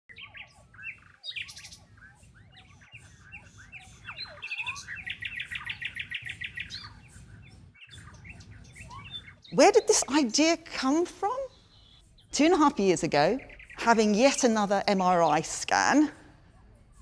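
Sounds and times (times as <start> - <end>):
birds chirping and calling: 0.1 - 17.0
low hum of mri scanner: 0.1 - 17.0.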